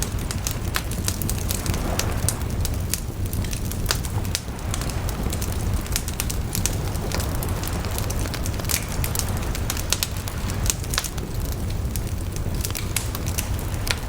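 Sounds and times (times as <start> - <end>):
bonfire crackling and popping: 0.0 - 14.0
bonfire low rumble: 0.0 - 14.0.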